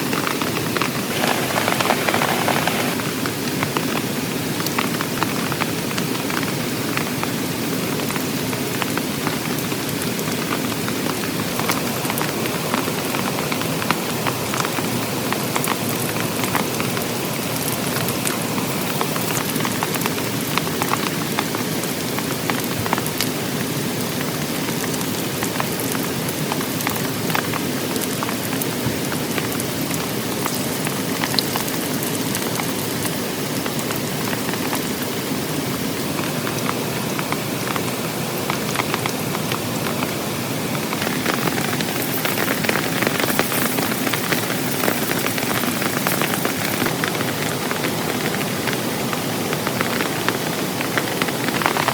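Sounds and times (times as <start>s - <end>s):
heavy rain on a tent: 0.0s - 51.9s.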